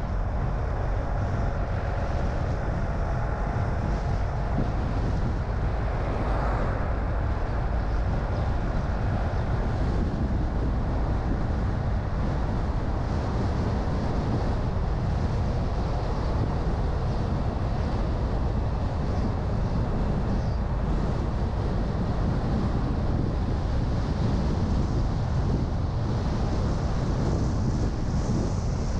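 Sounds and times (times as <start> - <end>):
car driving road noise: 0.0 - 28.9
wind: 0.0 - 28.9.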